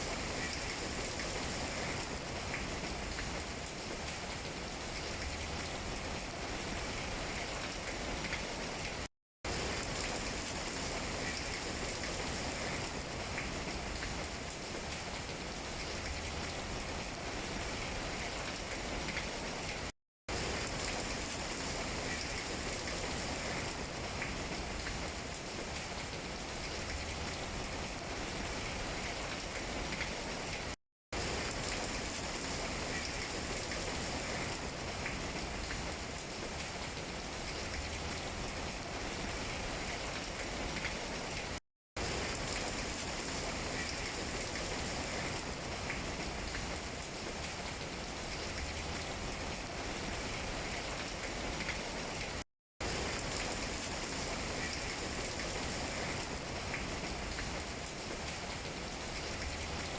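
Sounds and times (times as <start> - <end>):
rain on tree leaves: 0.0 - 59.9.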